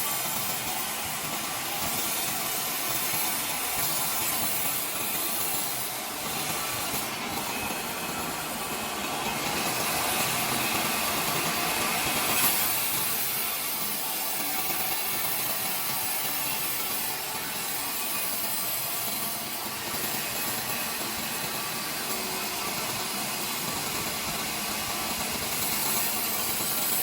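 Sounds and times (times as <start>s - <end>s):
saw cutting through log: 0.0s - 27.0s.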